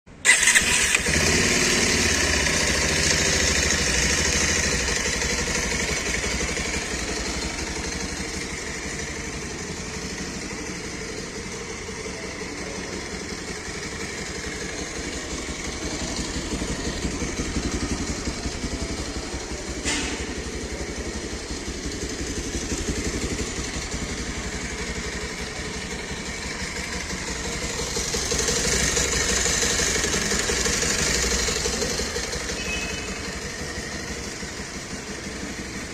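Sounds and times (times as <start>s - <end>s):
motorcycle engine idling: 0.2s - 35.9s.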